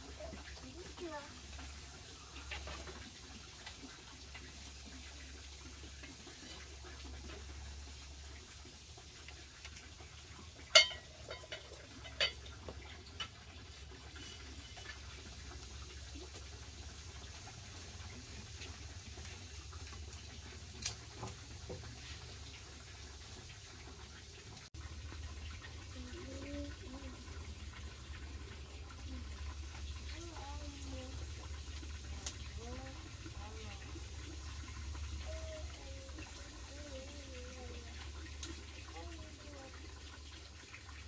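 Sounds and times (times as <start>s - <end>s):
water pouring or splashing: 0.0s - 41.0s.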